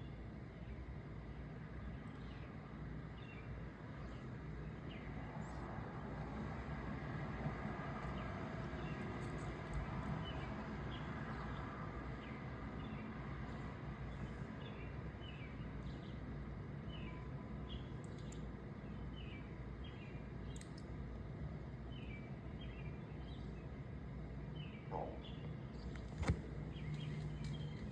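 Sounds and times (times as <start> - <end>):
low outdoor rumble: 0.0 - 27.9.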